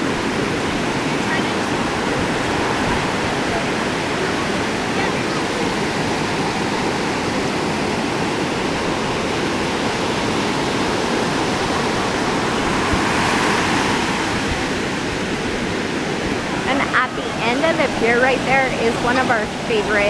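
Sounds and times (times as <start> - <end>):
ocean surf washing up beach: 0.0 - 20.0.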